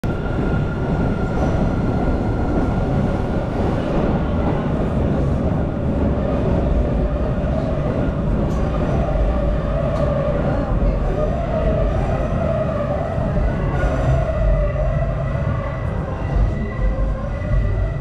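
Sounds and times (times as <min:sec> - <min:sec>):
subway train low rumble: 0:00.0 - 0:18.0.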